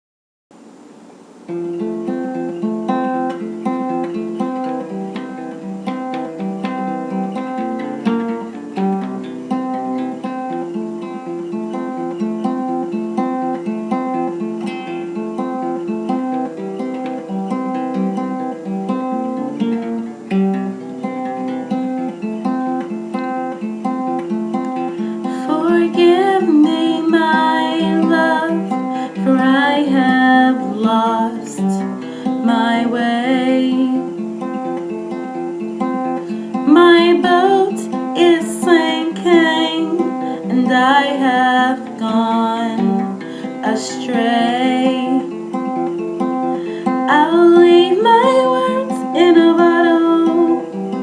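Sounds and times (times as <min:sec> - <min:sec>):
acoustic guitar playing: 0:00.6 - 0:51.0.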